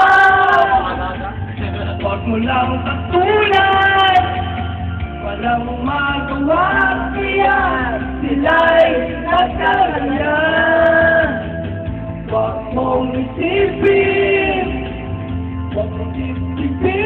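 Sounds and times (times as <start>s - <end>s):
karaoke backing track: 0.0s - 17.0s
person singing karaoke: 0.0s - 17.0s.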